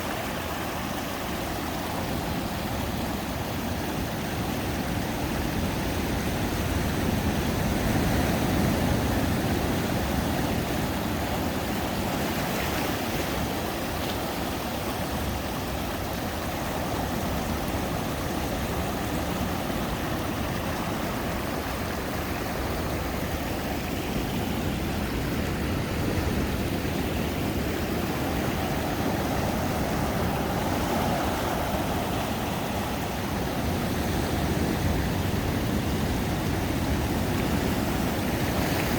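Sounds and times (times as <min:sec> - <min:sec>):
ocean surf washing ashore: 0:00.0 - 0:38.9.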